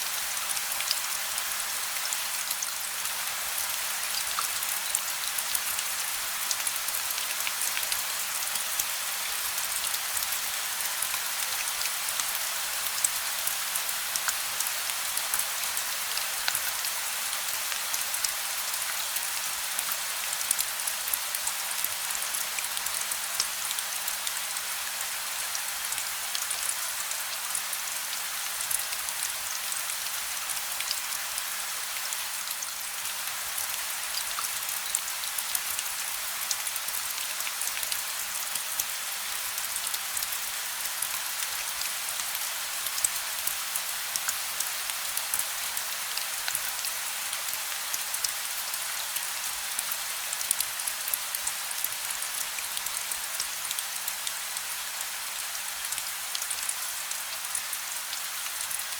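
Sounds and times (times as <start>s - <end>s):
gentle rain falling: 0.0s - 58.9s.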